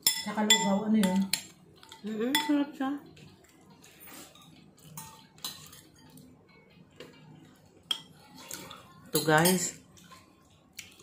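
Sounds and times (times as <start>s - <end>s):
metal spoon clinking on dishes: 0.0s - 2.8s, 3.4s - 10.3s.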